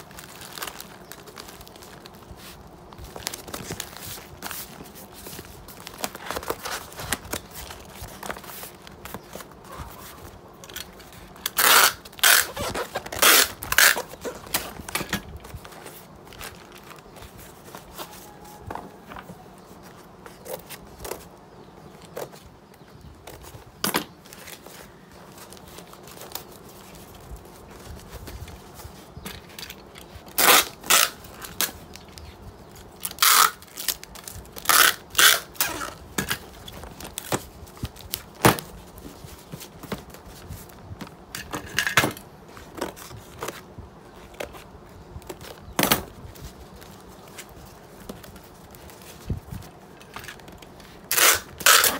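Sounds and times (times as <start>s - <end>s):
cardboard being folded: 0.0s - 21.4s, 22.0s - 41.2s, 42.4s - 51.9s.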